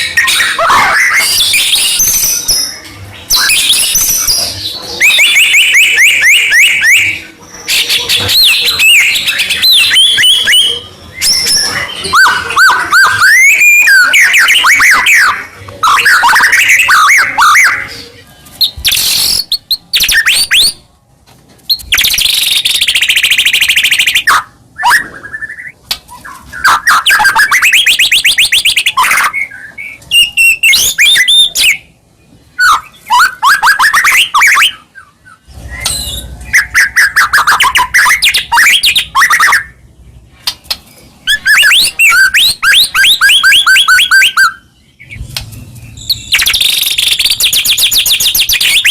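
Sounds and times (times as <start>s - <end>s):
songbird singing whistles and trills: 0.0s - 20.9s, 21.7s - 31.9s, 32.5s - 39.8s, 41.2s - 45.2s, 45.9s - 48.9s.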